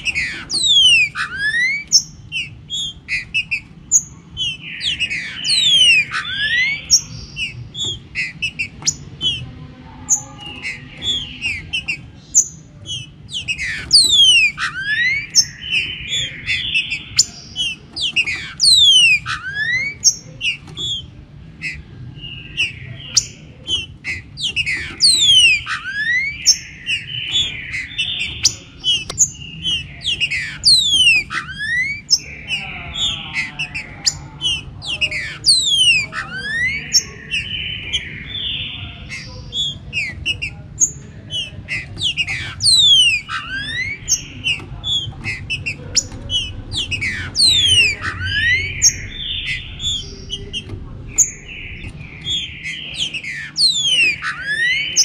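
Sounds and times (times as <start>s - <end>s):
birds singing and calling: 0.0s - 55.0s
low background noise: 0.0s - 55.0s.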